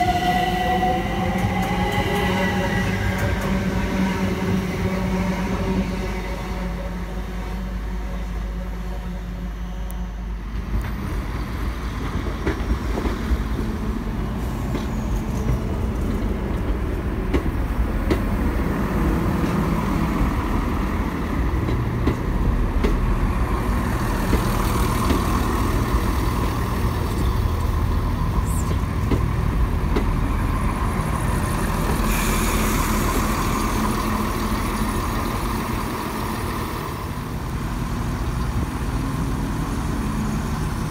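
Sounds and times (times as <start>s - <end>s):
electric train coming in: 0.0s - 40.9s
train rolling along platform: 0.0s - 40.9s.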